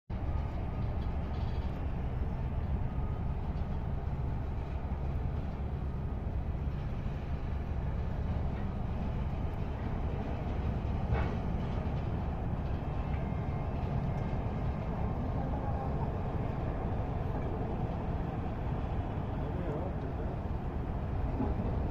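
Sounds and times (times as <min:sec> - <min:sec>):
heavy machinery rumbling: 0:00.1 - 0:21.9.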